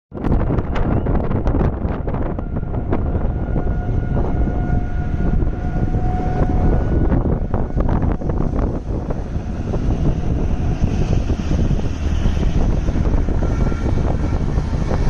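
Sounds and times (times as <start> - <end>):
wind buffeting microphone: 0.1 - 15.0
steady siren tone: 0.5 - 15.0.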